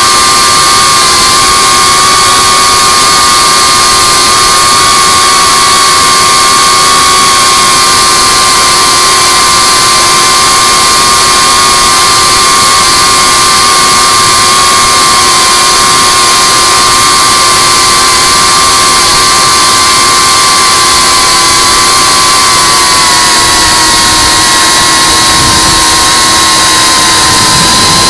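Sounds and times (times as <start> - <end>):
quadcopter motors whining: 0.0 - 28.0
rush of noise: 0.0 - 28.0.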